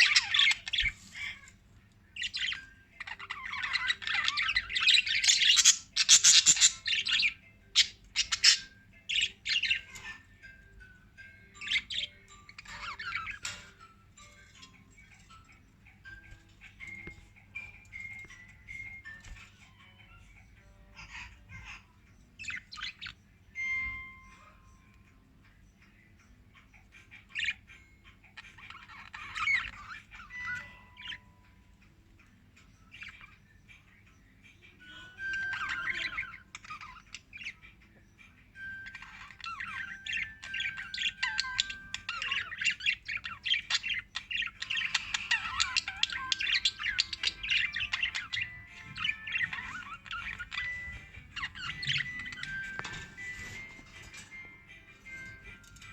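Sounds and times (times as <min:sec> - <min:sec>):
lovebirds chirping: 0:00.0 - 0:55.9.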